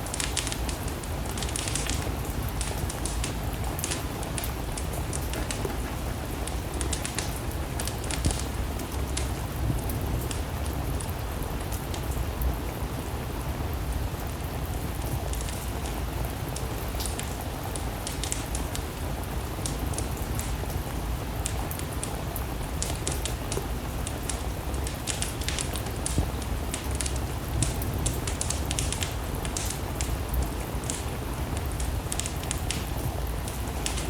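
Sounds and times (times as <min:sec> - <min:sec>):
steady rain: 0:00.0 - 0:34.0
wood fire crackling and popping: 0:00.0 - 0:34.0.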